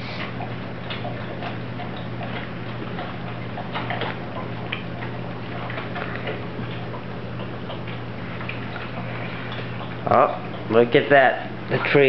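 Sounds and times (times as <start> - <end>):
puppies smacking and suckling: 0.0 - 12.0.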